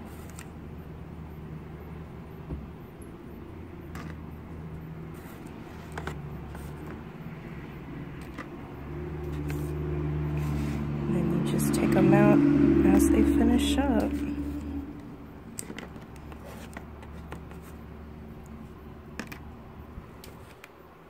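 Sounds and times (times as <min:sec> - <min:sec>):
engine low rumble: 0:00.1 - 0:20.5.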